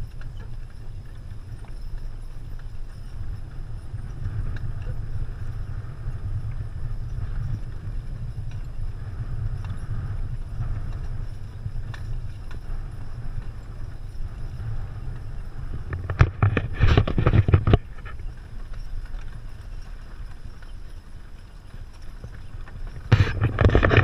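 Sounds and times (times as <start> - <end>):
wagon rolling rumble: 0.0 - 24.0.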